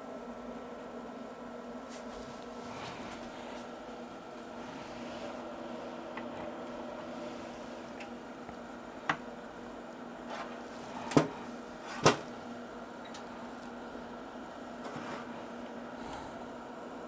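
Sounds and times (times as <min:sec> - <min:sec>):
equipment hum: 0:00.0 - 0:17.0.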